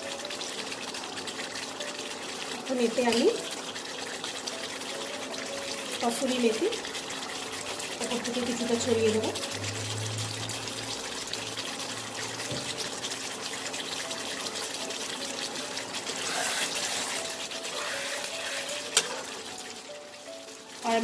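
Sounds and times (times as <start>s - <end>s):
gravy bubbling and sizzling: 0.0s - 21.0s.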